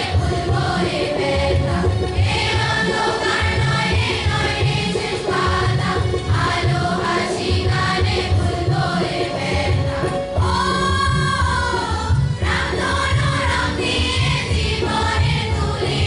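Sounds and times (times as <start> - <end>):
group singing over a beat: 0.0 - 16.0.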